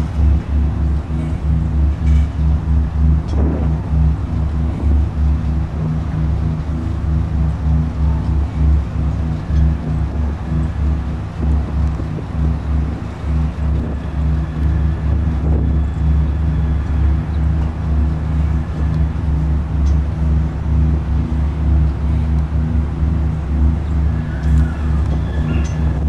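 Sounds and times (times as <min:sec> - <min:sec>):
deep rumbling drone: 0:00.0 - 0:26.0
low tones: 0:00.0 - 0:26.0.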